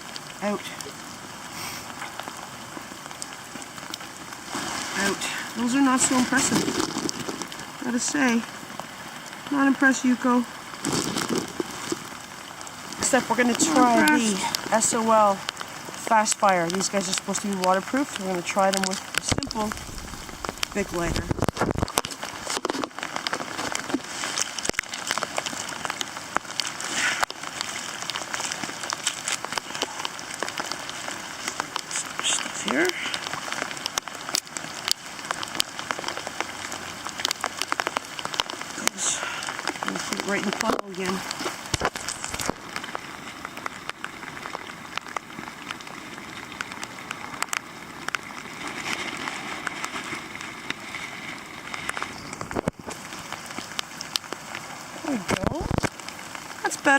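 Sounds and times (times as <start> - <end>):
rain drops ticking: 0.0 - 56.9.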